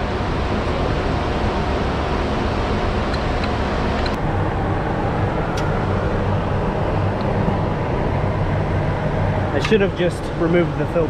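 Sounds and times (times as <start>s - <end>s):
mechanical drone and air rush: 0.0s - 11.0s.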